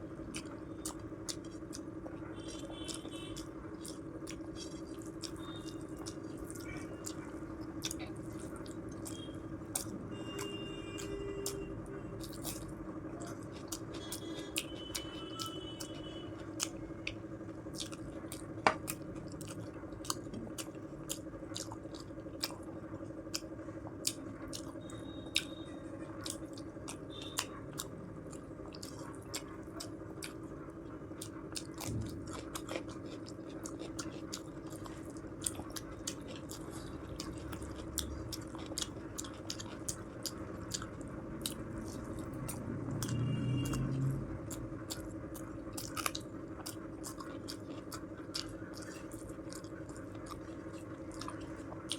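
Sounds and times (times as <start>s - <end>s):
steady low hum: 0.0s - 51.9s
person chewing with mouth sounds: 0.2s - 51.9s.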